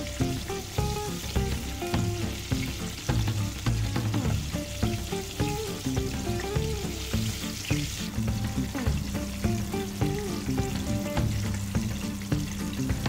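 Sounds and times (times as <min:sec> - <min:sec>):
background music: 0:00.0 - 0:13.0
food sizzling in hot oil: 0:00.0 - 0:13.0.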